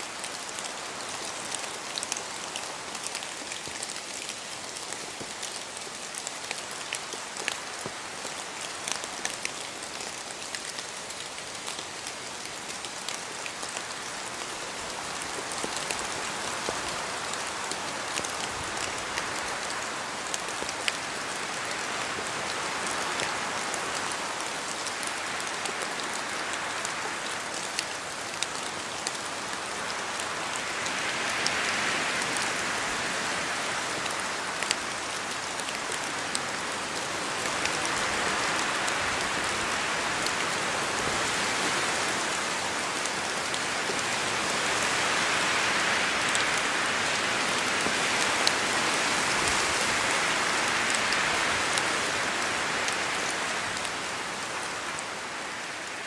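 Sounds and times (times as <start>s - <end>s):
steady rain in forest: 0.0s - 56.0s
wind: 0.0s - 56.0s.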